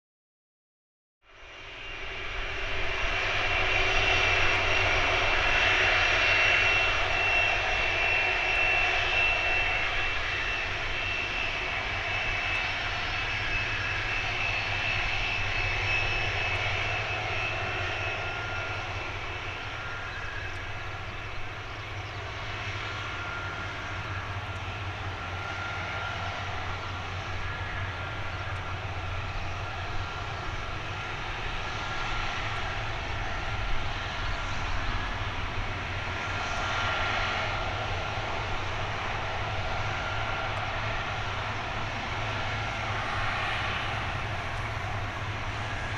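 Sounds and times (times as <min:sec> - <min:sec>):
jet engines running: 0:01.3 - 0:45.9.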